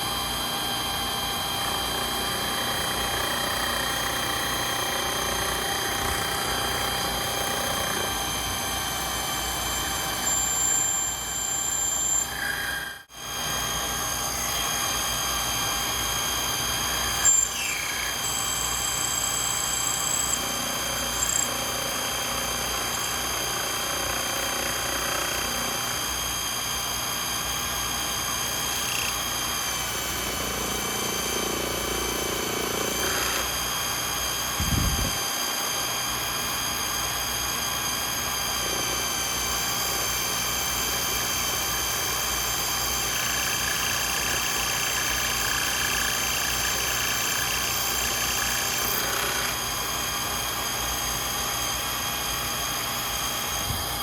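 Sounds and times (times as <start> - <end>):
lathe motor whining: 0.0 - 54.0.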